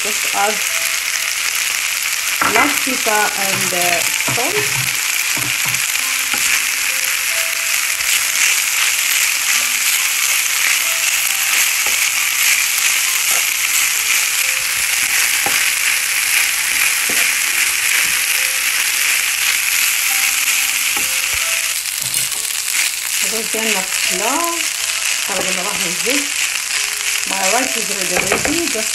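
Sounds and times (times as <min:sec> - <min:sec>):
rice sizzling in oil: 0:00.0 - 0:28.9.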